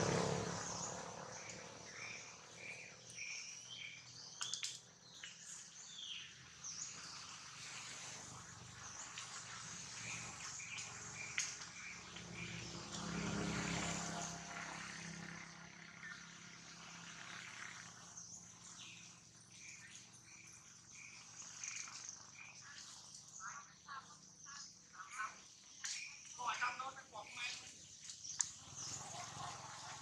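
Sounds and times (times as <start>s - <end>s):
distant engine droning: 0.0s - 30.0s.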